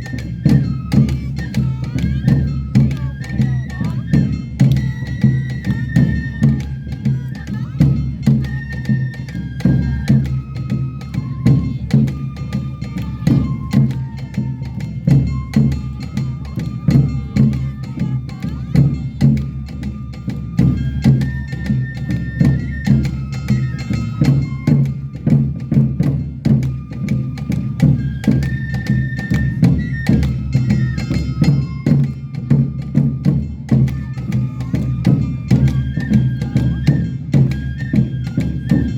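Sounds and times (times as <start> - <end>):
bamboo flute melody: 0.0 - 38.9
drums and percussion: 0.0 - 38.9.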